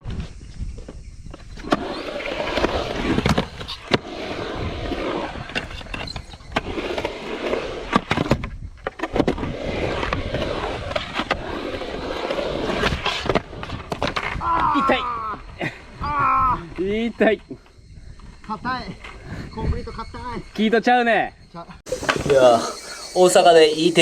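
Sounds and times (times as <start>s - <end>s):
skateboard wheels rolling on concrete: 0.0s - 19.6s, 21.9s - 24.0s.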